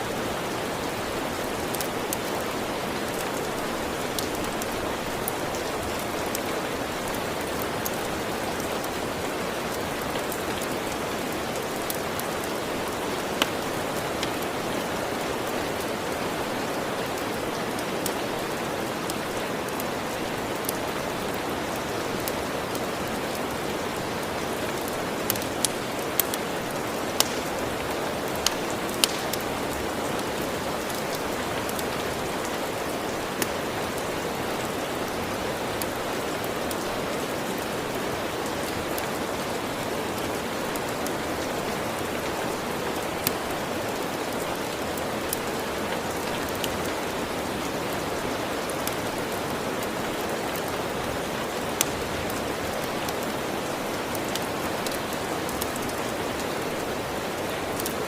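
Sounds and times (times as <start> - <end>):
steady rain falling: 0.0 - 58.0
log fire popping and crackling: 0.1 - 58.0.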